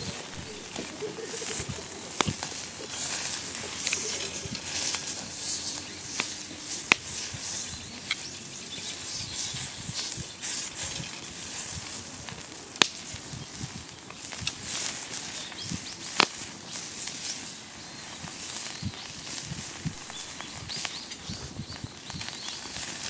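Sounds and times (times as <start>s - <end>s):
meat sizzling: 0.0s - 23.0s
wood fire crackling pops: 0.0s - 23.0s.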